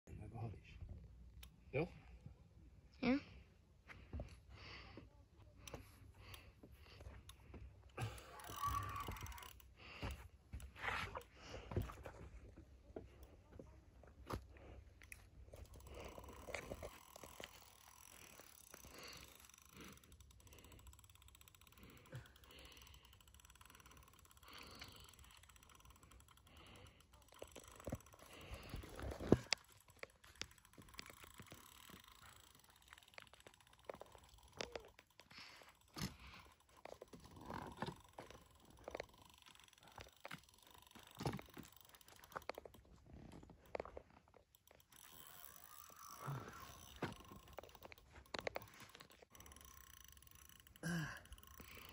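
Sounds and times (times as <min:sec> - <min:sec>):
fishing reel clicking and rustling: 0:05.5 - 0:13.4, 0:14.2 - 0:51.9.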